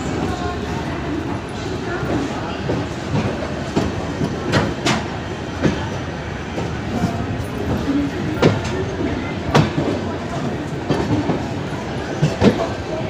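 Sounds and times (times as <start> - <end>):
train rumbling: 0.0 - 13.0
wheels clacking over rail joints: 1.5 - 13.0.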